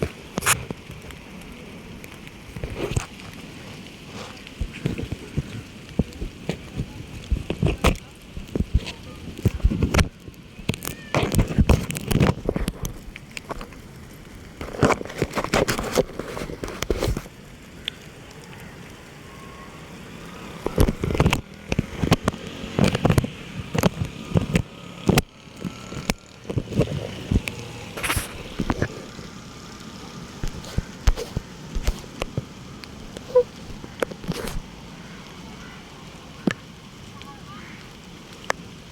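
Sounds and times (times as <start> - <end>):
raindrops pattering: 0.0 - 38.9.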